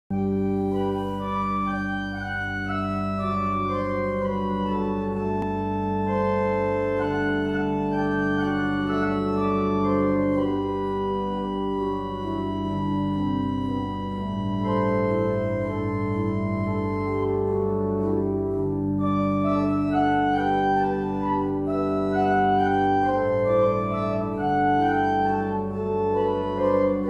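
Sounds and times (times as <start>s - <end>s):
church organ playing chords: 0.1s - 27.0s.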